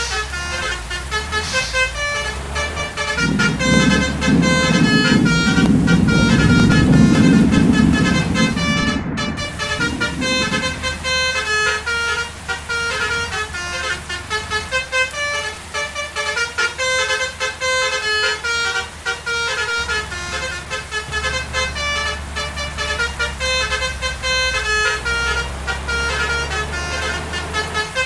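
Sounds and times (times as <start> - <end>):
bus horn playing a tune: 0.0 - 28.0
engine running low: 0.0 - 28.0.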